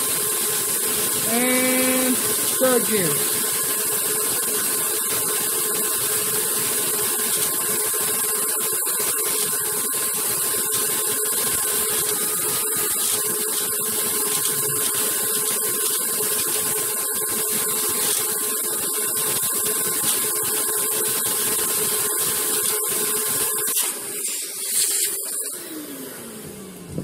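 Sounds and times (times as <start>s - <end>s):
toy engine mechanical whir: 0.0s - 26.9s
vacuum cleaner drone: 0.0s - 27.0s.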